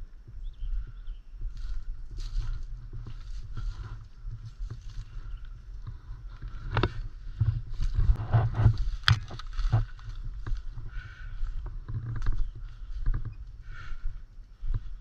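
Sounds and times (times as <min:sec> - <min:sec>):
wind rumble on microphone: 0:00.0 - 0:15.0
rustling and crunching: 0:01.5 - 0:15.0.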